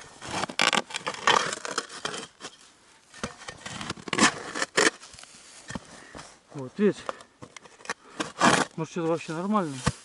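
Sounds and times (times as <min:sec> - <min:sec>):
digging tool scraping soil: 0:00.0 - 0:05.9, 0:07.7 - 0:10.0.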